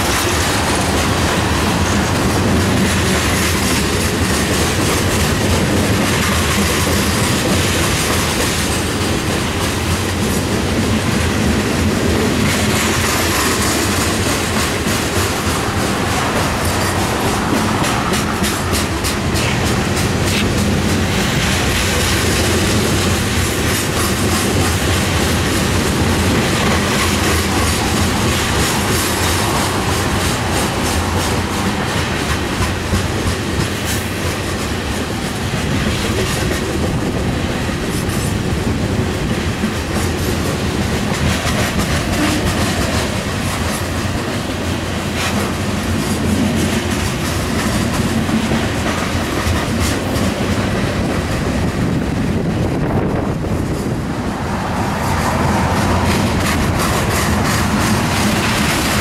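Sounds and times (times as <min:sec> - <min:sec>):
steel wheels rumbling on rail: 0:00.0 - 0:59.0
wheels clicking over rail joints: 0:00.0 - 0:59.0.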